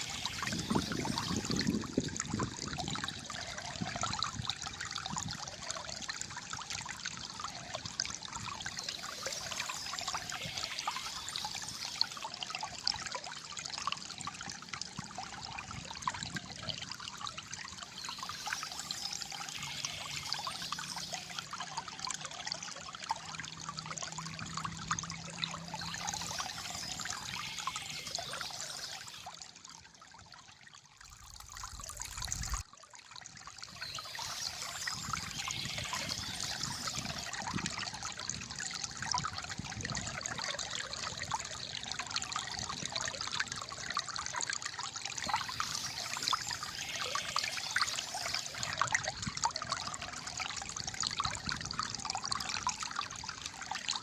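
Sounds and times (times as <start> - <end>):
water trickling and gurgling: 0.0 - 54.0.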